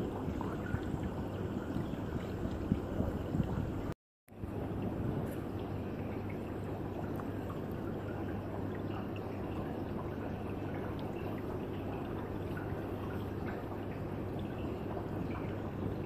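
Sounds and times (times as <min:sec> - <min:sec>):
aquarium water bubbling: 0:00.0 - 0:16.0
low steady hum: 0:00.0 - 0:16.0.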